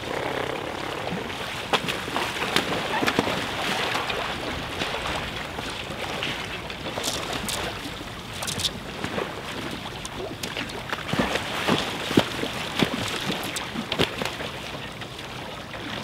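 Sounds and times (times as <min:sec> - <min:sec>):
swans splashing in water: 0:00.0 - 0:16.0.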